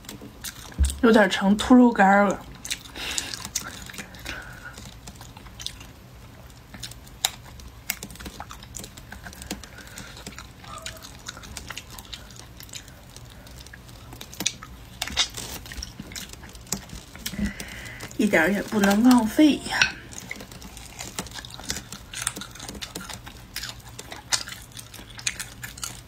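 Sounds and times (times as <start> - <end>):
sharp clicks and small crunches: 0.0 - 1.0, 2.4 - 26.0
chewing tough meat: 0.0 - 1.3, 2.3 - 26.0.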